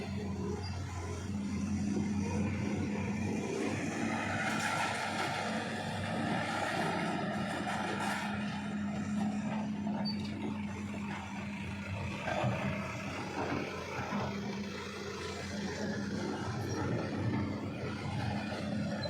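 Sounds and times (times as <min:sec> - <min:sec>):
slow road traffic: 0:00.0 - 0:19.0
vehicle engine humming: 0:00.0 - 0:19.0.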